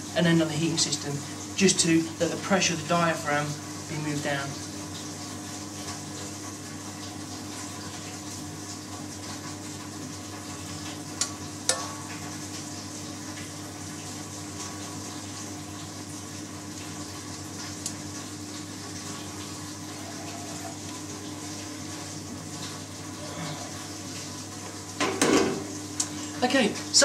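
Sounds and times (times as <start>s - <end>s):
low hum and hiss: 0.0s - 6.0s, 10.1s - 27.0s.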